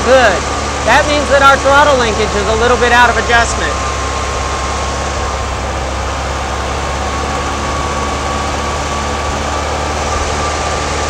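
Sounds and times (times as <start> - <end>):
car engine fast idle: 0.0 - 11.0.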